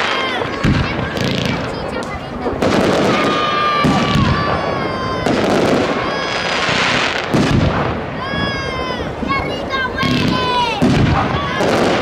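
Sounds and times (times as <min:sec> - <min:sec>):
crackling hiss of fireworks: 0:00.0 - 0:12.0
fireworks bursting with bangs: 0:00.0 - 0:12.0.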